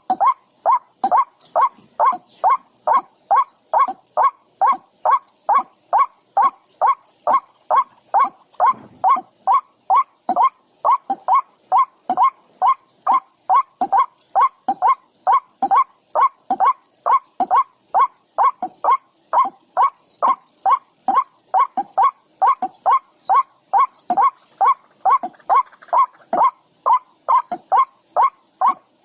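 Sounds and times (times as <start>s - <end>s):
bird giving harsh calls: 0.0s - 28.9s.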